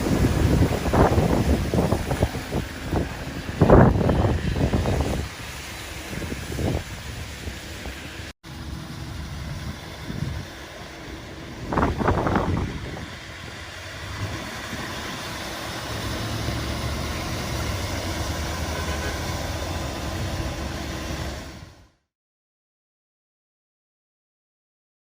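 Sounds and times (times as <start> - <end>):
vehicle engine running: 0.0 - 22.0
outdoor noise: 0.0 - 22.1.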